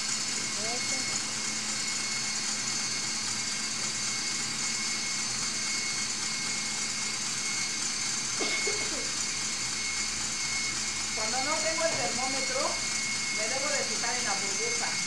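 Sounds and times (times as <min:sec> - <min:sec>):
stand mixer whining: 0:00.0 - 0:15.0.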